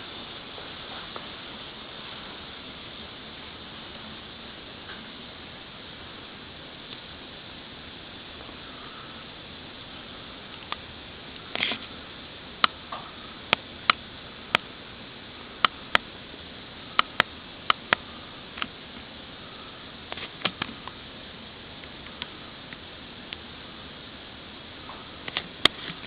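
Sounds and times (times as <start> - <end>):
fire hiss: 0.0 - 26.0
wood fire crackling: 0.0 - 26.0.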